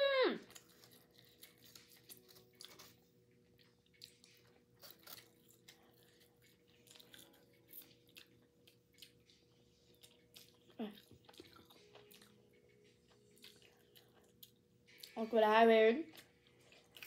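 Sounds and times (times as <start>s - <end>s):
close chewing with wet smacks: 0.4s - 15.2s, 16.1s - 17.0s.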